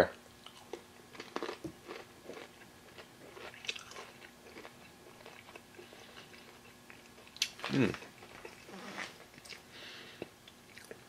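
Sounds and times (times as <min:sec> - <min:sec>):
person chewing crunchy food: 0:00.4 - 0:11.0.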